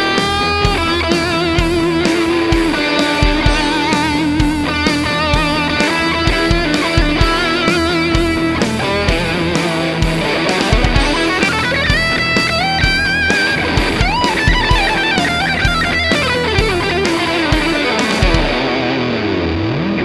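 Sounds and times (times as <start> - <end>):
distorted electric guitar lead: 0.0 - 20.0.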